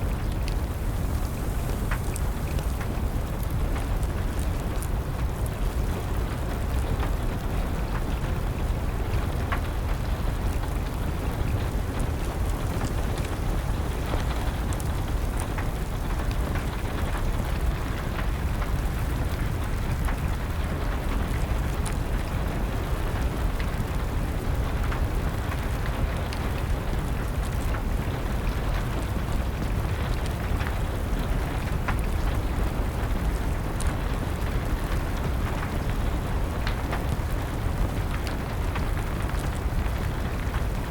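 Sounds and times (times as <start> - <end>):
steady rain rumbling: 0.0 - 40.9
wood fire crackling and popping: 0.0 - 40.9.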